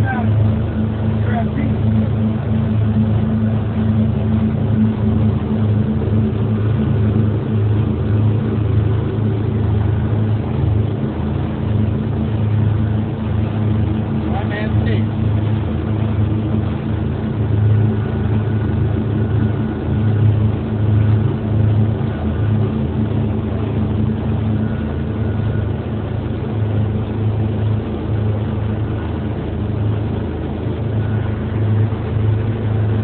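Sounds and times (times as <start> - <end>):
motorboat engine drone: 0.0 - 33.0
rushing water: 0.0 - 33.0
wind: 0.0 - 33.0.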